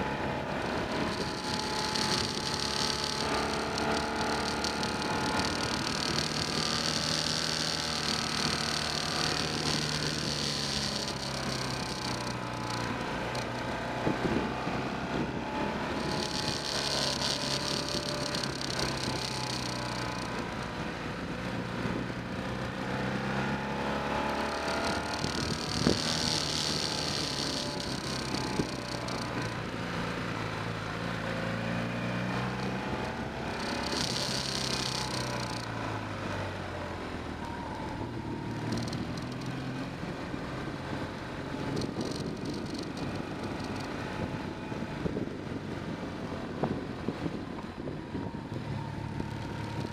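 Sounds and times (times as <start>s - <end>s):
motorcycle engine running: 0.0s - 49.9s
road and wind noise: 0.0s - 49.9s.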